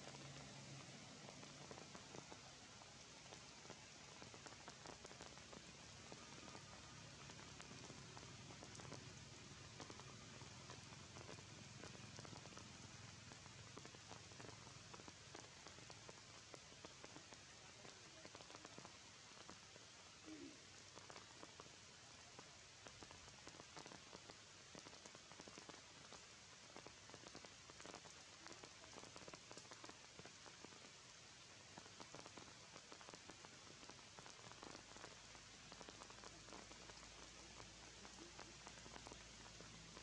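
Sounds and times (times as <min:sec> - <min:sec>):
rain falling through foliage: 0:00.0 - 0:40.0.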